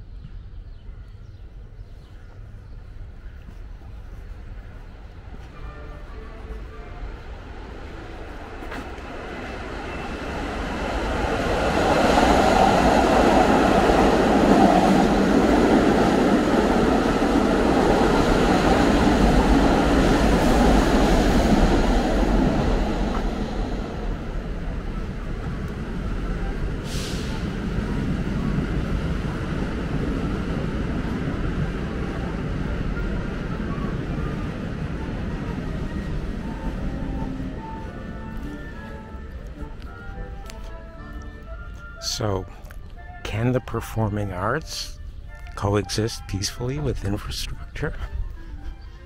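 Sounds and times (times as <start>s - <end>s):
subway train rumbling past: 0.0s - 44.2s.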